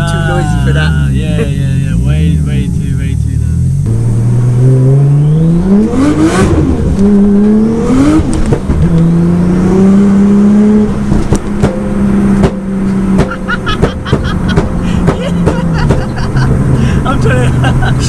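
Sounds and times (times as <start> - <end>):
car engine accelerating hard: 0.0 - 18.0
loud exhaust: 0.0 - 18.0.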